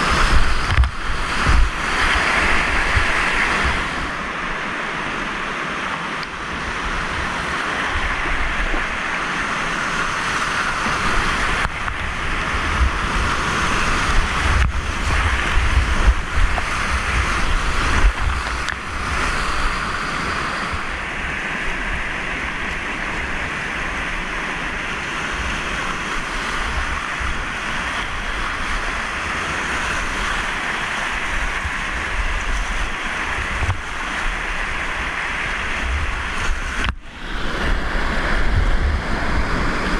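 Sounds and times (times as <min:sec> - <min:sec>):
wind buffeting microphone: 0:00.0 - 0:05.2, 0:06.2 - 0:39.9
whitewater rapids rushing: 0:00.0 - 0:39.9.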